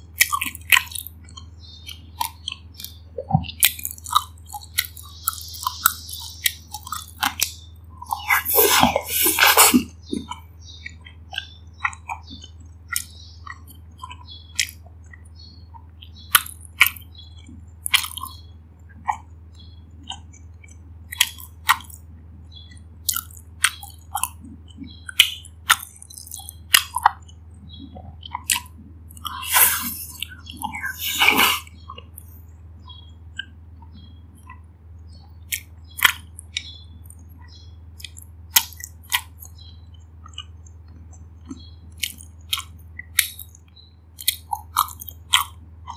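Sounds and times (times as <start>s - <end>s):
chewing with wet mouth clicks: 0.0s - 45.9s.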